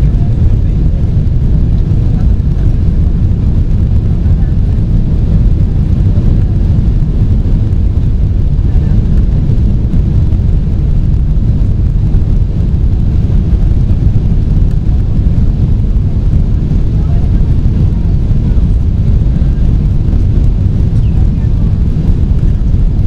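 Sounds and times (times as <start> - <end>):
airflow over fuselage: 0.0 - 23.0
airplane cabin engine rumble: 0.0 - 23.0.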